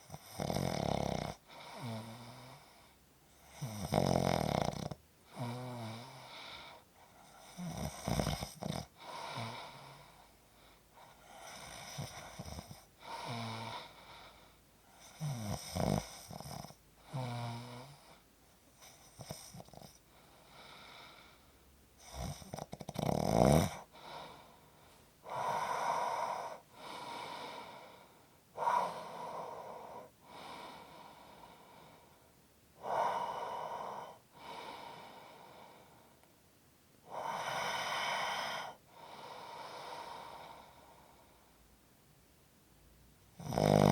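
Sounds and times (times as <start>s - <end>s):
person snoring: 0.0s - 2.8s, 3.4s - 10.2s, 11.0s - 14.2s, 15.0s - 18.1s, 18.8s - 21.2s, 22.0s - 32.0s, 32.8s - 36.0s, 37.1s - 41.3s, 43.4s - 43.9s.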